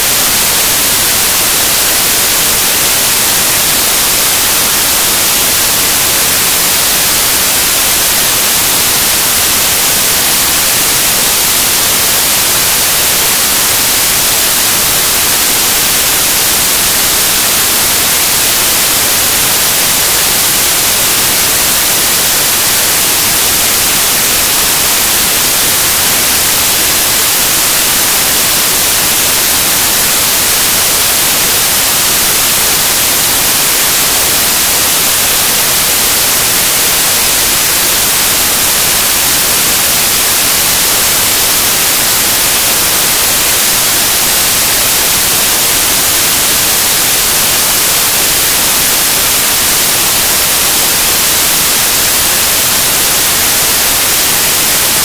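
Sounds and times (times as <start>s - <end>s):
loud static hiss: 0.0s - 55.0s.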